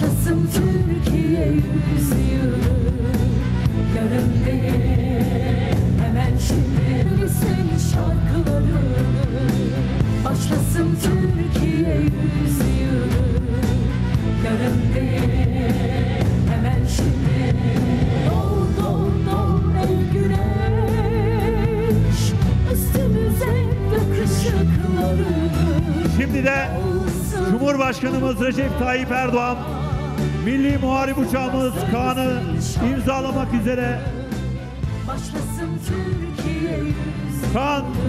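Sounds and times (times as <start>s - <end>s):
singing over bass and drum beat: 0.0s - 38.0s.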